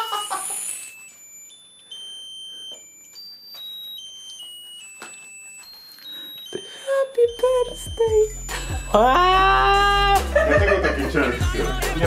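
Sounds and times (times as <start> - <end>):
musical candle chip tinny tune: 0.0 - 12.0.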